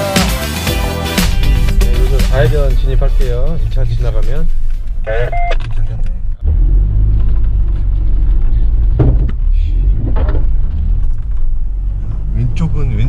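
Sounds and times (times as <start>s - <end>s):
vehicle road and engine rumble: 1.4s - 13.0s.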